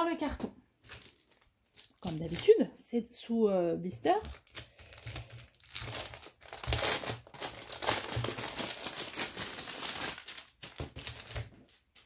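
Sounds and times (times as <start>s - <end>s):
plastic wrapping crinkling: 0.8s - 2.7s, 3.9s - 12.0s.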